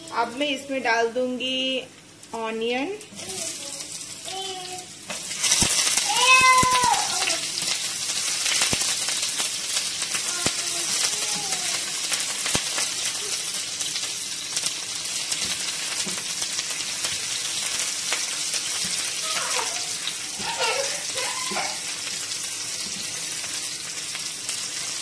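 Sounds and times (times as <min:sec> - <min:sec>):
food sizzling in hot oil: 0:01.5 - 0:25.0.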